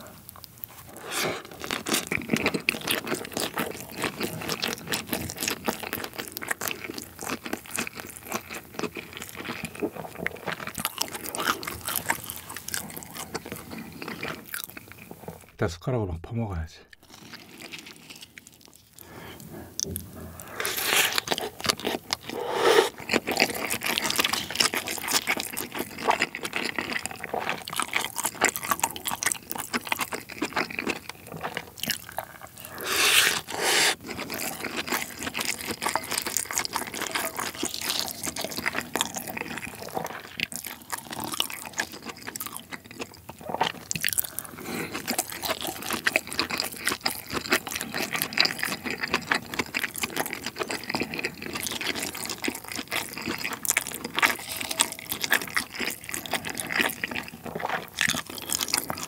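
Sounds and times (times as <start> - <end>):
close-miked chewing: 0.0 - 15.6, 16.9 - 59.0.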